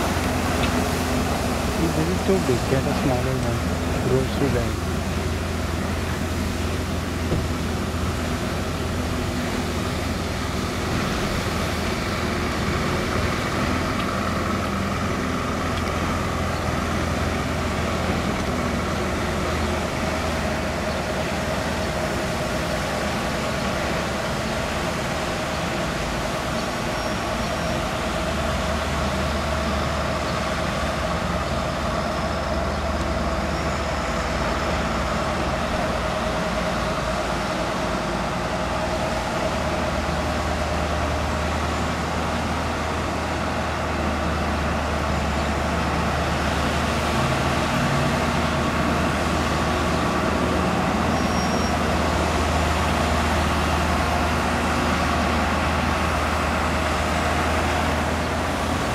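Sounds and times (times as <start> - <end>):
truck engine humming: 0.0 - 58.9.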